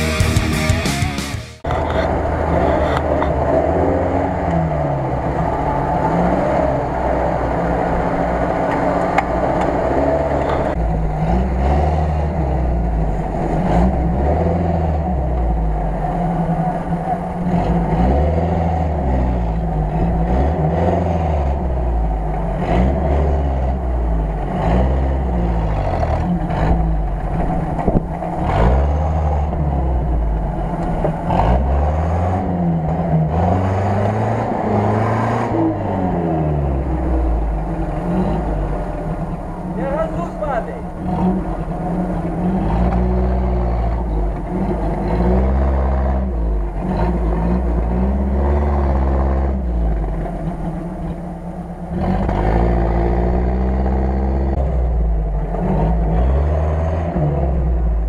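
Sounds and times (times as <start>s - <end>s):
off-road engine revving: 0.0s - 58.0s
tyres working through mud: 1.6s - 58.0s.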